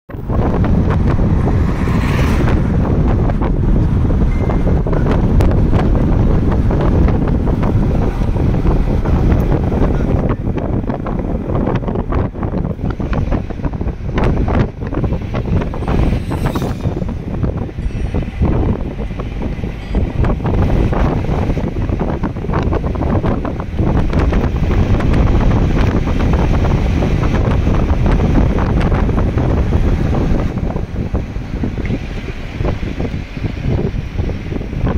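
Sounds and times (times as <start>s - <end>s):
car road noise: 0.1s - 34.9s
wind buffeting microphone: 0.1s - 34.9s.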